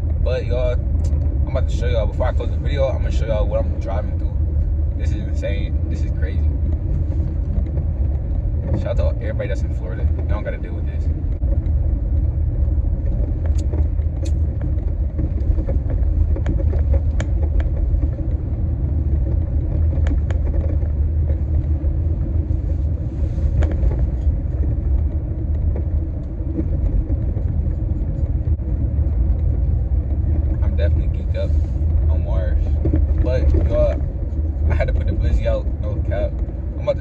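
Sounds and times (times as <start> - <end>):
car driving rumble inside cabin: 0.0 - 37.0.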